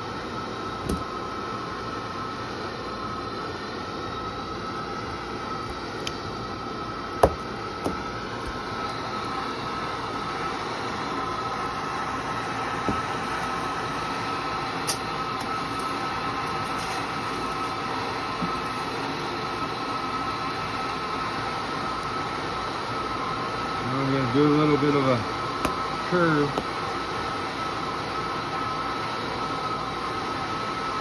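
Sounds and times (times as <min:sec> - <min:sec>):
gas burner flame rushing: 0:00.0 - 0:31.0.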